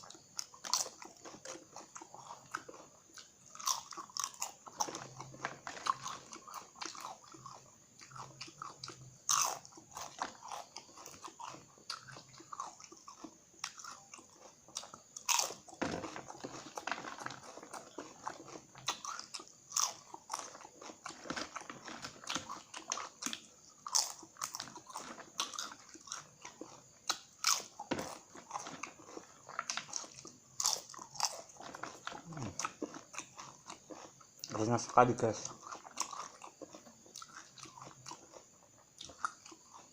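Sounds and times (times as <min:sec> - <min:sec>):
crunching crispy chips: 0:00.1 - 0:39.9.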